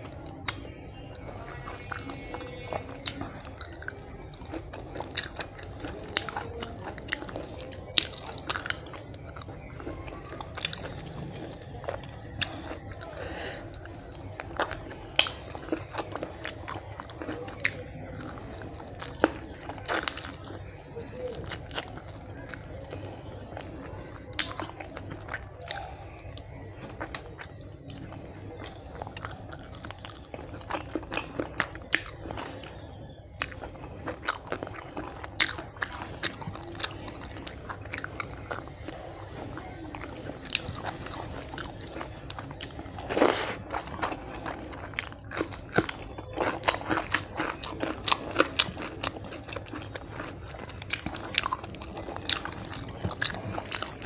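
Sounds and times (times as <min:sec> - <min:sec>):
food crunching: 0:00.0 - 0:54.0
person chewing food: 0:00.0 - 0:54.0.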